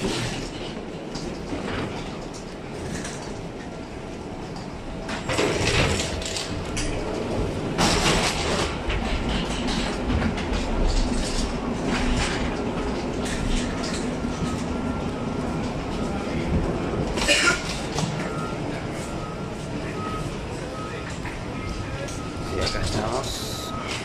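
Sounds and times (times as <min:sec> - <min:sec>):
people walking on jet bridge: 0:00.0 - 0:24.0.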